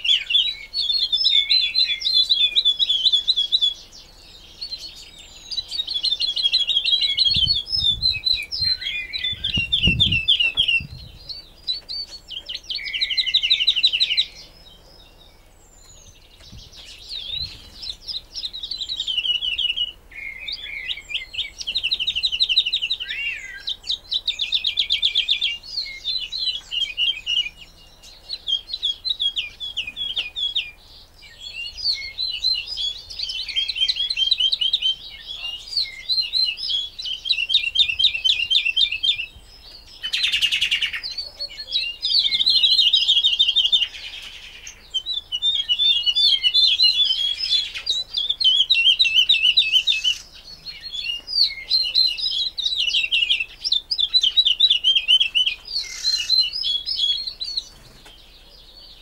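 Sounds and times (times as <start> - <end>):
woodlark singing: 0.0 - 59.0.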